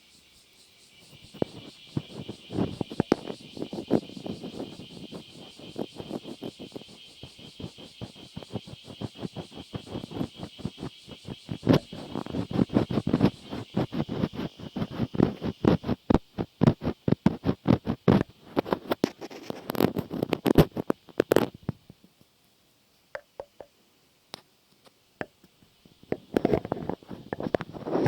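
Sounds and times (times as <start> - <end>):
crackly taps and scratches: 1.0 - 28.0.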